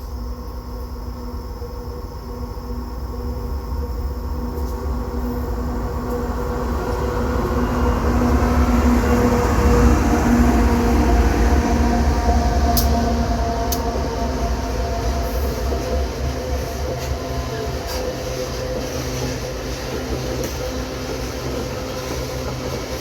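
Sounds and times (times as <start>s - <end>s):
freight train rumbling by: 1.6s - 23.0s.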